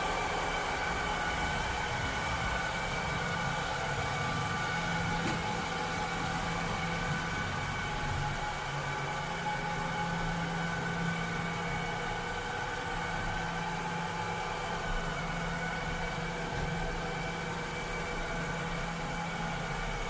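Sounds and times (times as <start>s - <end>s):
robot vacuum cleaner running: 0.0s - 20.0s.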